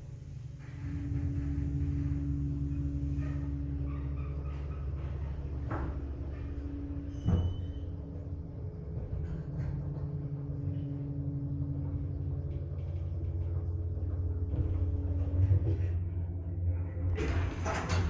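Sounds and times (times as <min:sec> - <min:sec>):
elevator machinery humming: 0:00.0 - 0:18.0.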